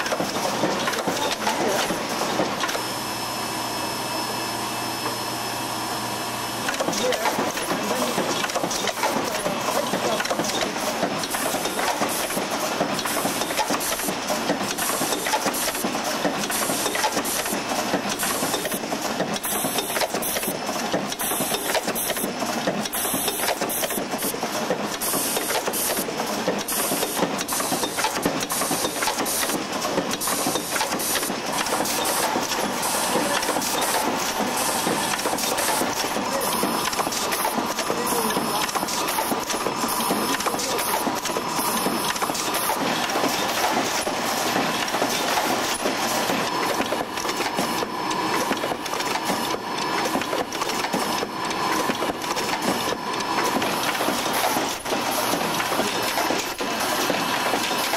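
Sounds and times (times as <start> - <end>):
machine mechanical clatter: 0.0 - 2.9, 6.6 - 57.9.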